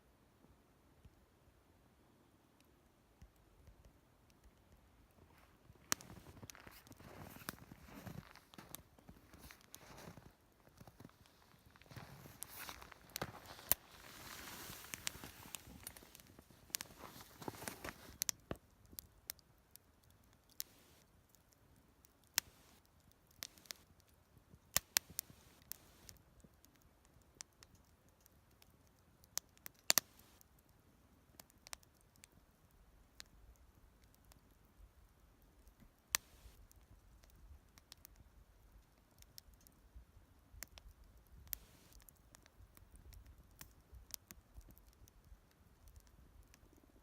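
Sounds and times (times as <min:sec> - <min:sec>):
faint hiss: 0:00.0 - 0:27.4, 0:28.3 - 0:37.0, 0:39.4 - 0:43.2
wood fire crackling: 0:02.3 - 0:47.0
sharp clicks and snaps: 0:02.6 - 0:04.9, 0:05.9 - 0:30.8, 0:31.4 - 0:32.4, 0:33.1 - 0:39.9, 0:40.5 - 0:46.9.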